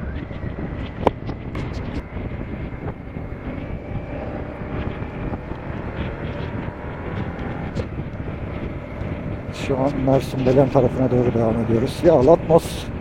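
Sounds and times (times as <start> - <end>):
motorcycle engine rumble: 0.0 - 13.0
wind and road noise: 0.0 - 13.0.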